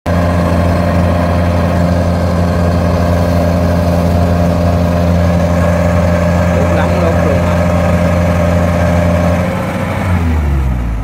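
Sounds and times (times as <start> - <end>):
diesel engine running: 0.1 - 11.0.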